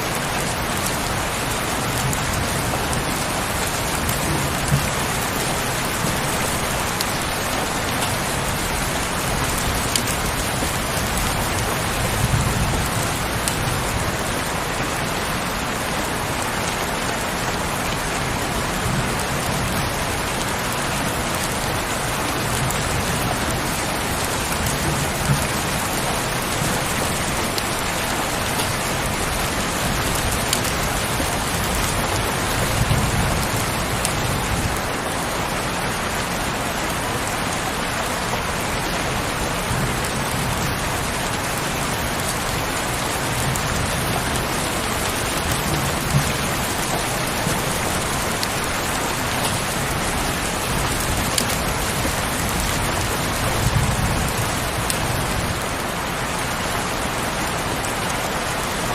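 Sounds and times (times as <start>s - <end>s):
heavy rain hiss: 0.0s - 58.9s.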